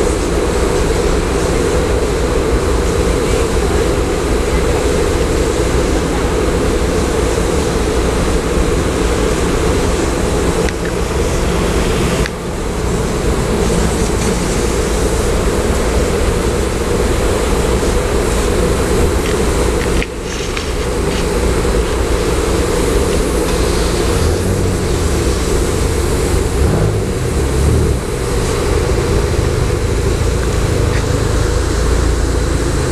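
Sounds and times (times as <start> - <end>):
air dryer blowers rushing: 0.0 - 32.9
car wash machinery rumbling: 0.0 - 32.9.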